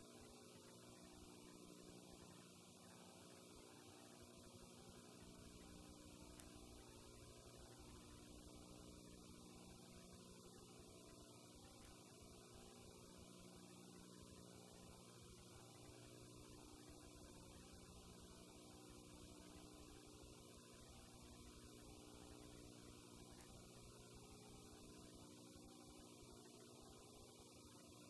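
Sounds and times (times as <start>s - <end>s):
faint electrical hum: 0.0s - 28.0s
light hiss: 0.0s - 28.0s.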